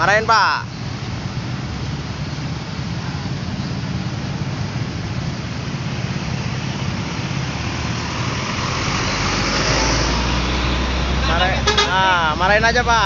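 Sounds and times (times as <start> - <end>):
stopped traffic noise: 0.7 - 13.0.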